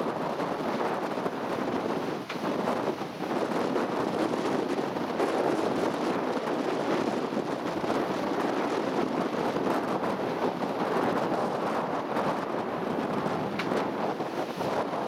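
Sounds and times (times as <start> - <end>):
storm wind on microphone: 0.0 - 15.0.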